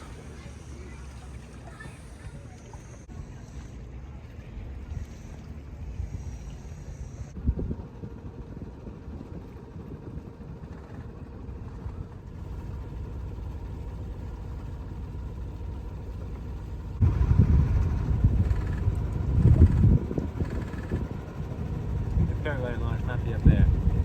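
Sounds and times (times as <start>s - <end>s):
boat engine running: 0.0s - 24.0s
wind buffeting microphone: 4.5s - 24.0s.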